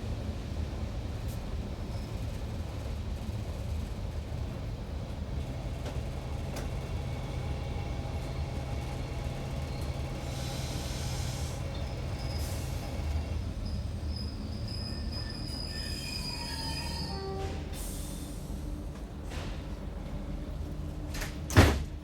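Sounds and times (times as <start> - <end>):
railcar engine and track rumble: 0.0 - 22.0.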